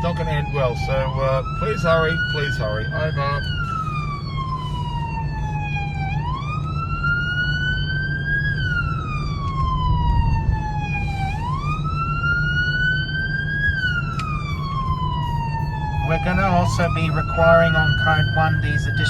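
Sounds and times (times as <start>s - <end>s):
emergency vehicle wail siren: 0.0s - 19.0s
engine and road rumble: 0.0s - 19.0s.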